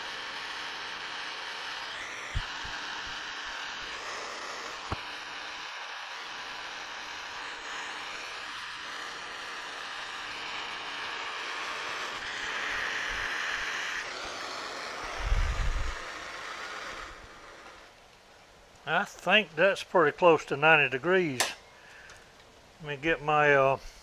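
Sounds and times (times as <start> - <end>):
torch flame hissing: 0.0 - 20.4.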